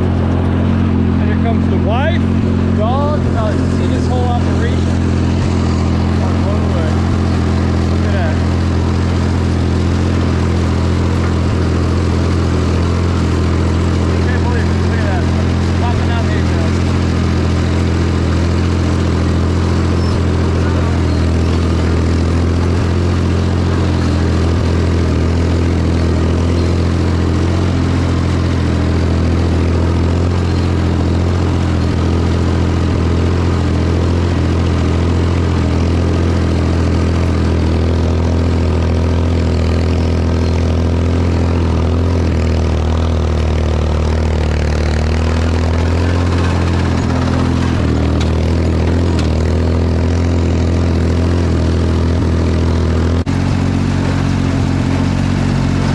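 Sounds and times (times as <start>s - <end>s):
hay baler running: 0.0s - 55.9s
tractor engine running: 0.0s - 55.9s.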